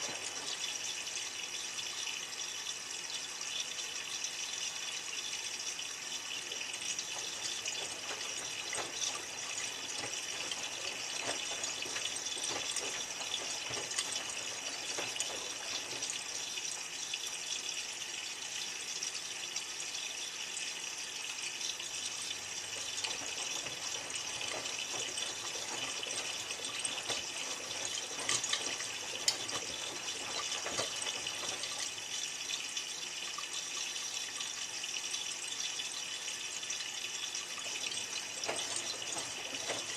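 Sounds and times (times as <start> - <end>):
washing machine water rushing: 0.0 - 39.9.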